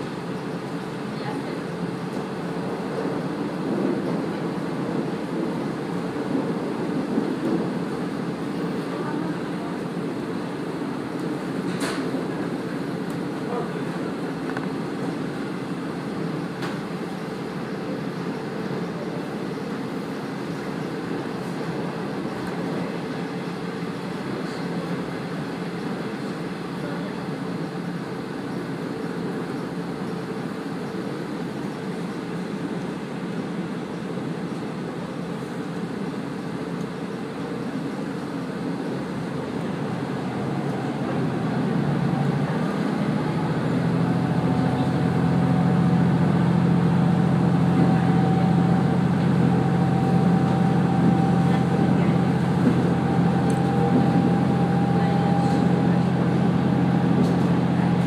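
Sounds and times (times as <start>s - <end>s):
diesel railcar engine: 0.0s - 58.0s.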